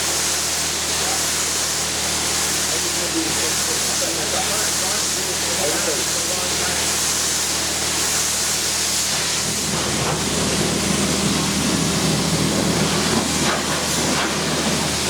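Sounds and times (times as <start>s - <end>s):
pressure washer spraying water: 0.0s - 15.0s
pump motor humming: 0.0s - 15.0s.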